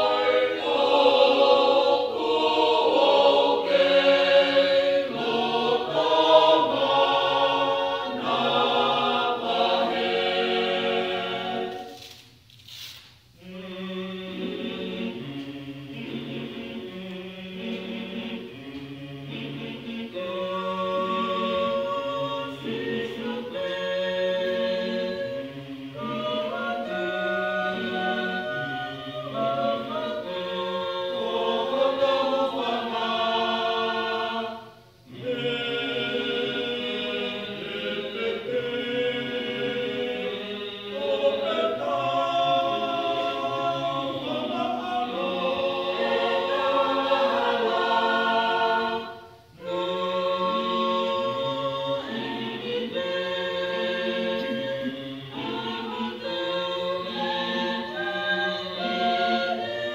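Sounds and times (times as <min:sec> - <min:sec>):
mixed choir singing a hymn: 0:00.0 - 0:12.2, 0:13.4 - 0:59.9.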